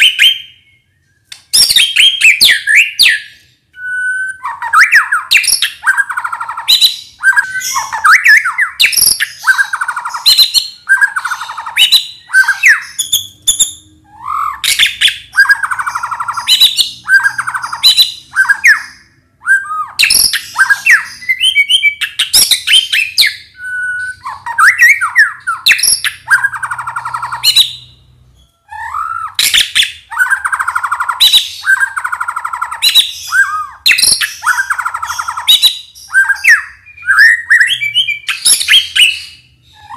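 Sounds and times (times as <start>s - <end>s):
songbird singing whistles and chatter: 0.0s - 39.9s.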